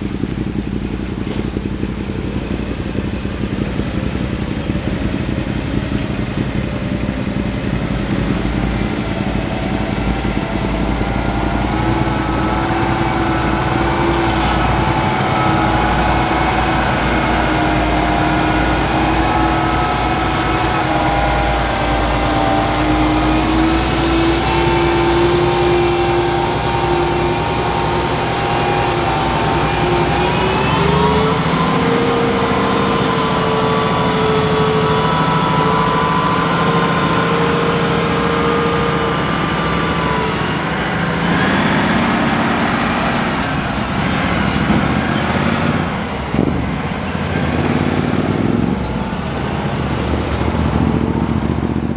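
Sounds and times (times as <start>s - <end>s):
passing vehicle tyre noise: 0.0s - 51.9s
truck diesel engine: 0.0s - 51.9s.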